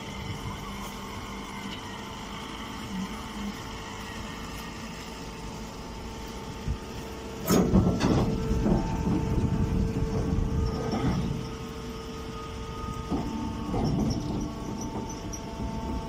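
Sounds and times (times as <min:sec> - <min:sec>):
baler motor humming: 0:00.0 - 0:16.0.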